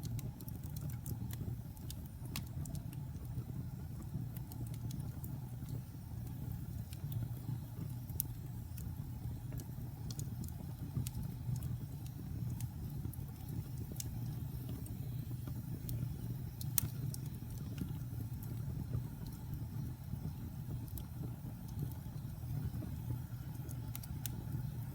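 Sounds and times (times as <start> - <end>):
fire rumbling: 0.0 - 24.9
wood crackling and popping: 0.0 - 24.9.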